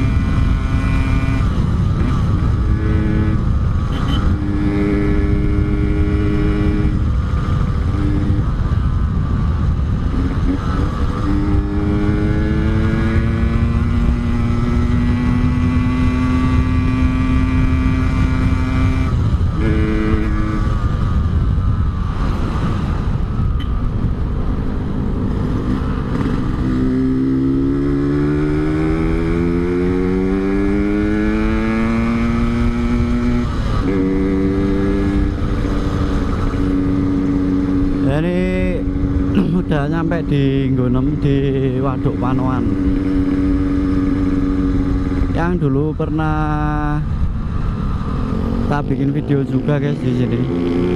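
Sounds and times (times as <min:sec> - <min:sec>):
low wind rumble: 0:00.0 - 0:50.9
motorcycle engine accelerating: 0:00.0 - 0:50.9.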